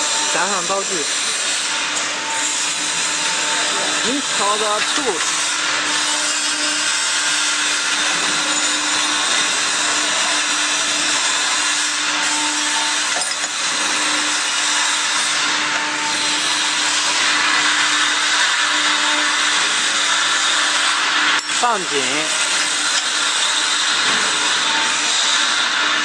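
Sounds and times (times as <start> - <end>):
machinery whirring: 0.0 - 25.7.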